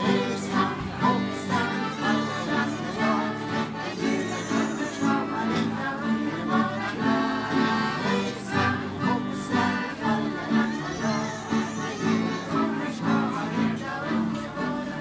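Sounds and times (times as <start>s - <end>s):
piano accordion: 0.0s - 15.0s
strummed acoustic guitars: 0.0s - 15.0s
voices singing together: 0.0s - 15.0s.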